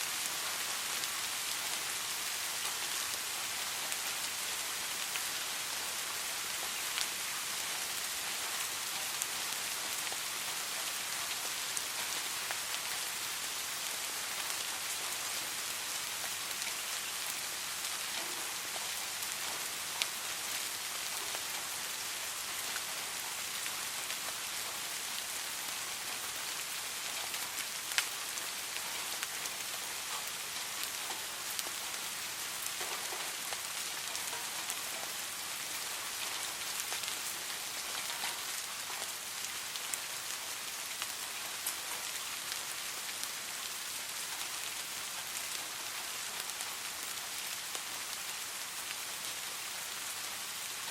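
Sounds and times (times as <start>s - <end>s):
soft rain falling: 0.0s - 50.9s.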